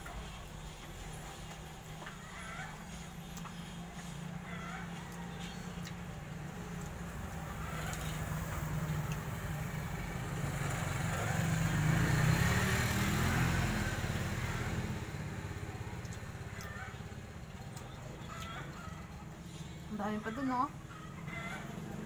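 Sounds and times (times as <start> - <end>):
vehicle engine passing by: 0.0 - 22.0.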